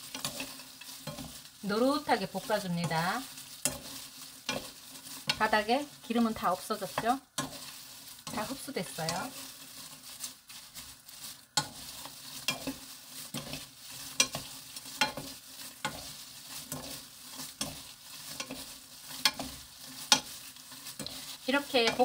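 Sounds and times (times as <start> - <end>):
dried peppers rattling in pan: 0.0 - 22.0.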